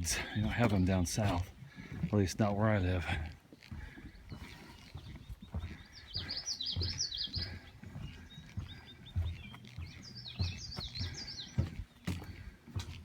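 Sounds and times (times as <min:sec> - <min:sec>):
footsteps thudding: 0:00.0 - 0:13.0
songbird singing: 0:00.0 - 0:13.0.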